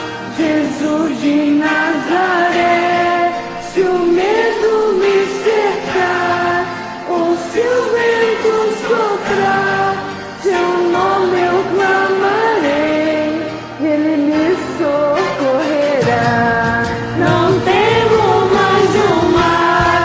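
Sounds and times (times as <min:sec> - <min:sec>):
karaoke backing track: 0:00.0 - 0:20.0
women singing: 0:00.0 - 0:20.0.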